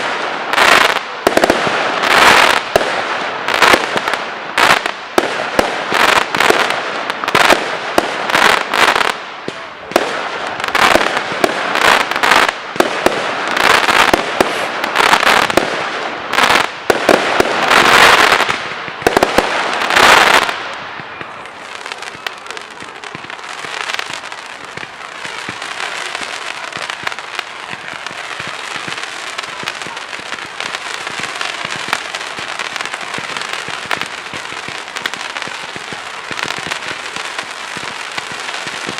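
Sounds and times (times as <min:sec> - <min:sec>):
fireworks bangs and bursting shells: 0:00.0 - 0:38.9
fireworks crackling fizz: 0:00.0 - 0:38.9.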